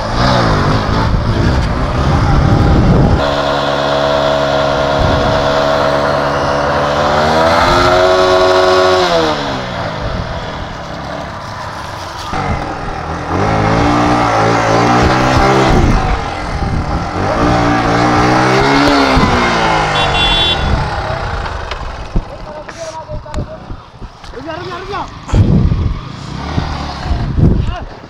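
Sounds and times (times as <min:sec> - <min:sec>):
motorcycle engine revving: 0:00.0 - 0:27.8.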